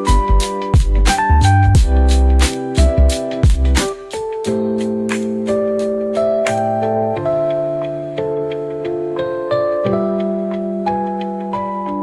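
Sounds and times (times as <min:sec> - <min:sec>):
keyboard-led tune with drum beat: 0:00.0 - 0:12.0.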